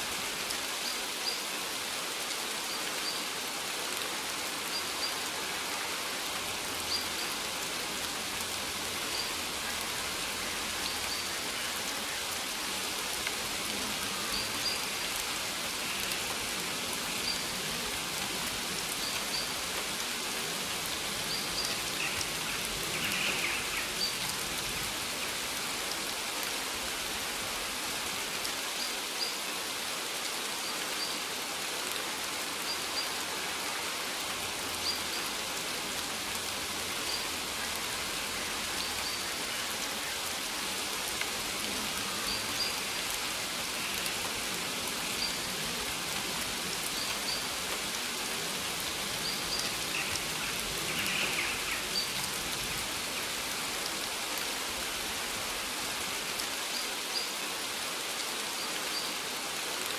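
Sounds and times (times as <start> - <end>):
rain on leaves: 0.0 - 59.9.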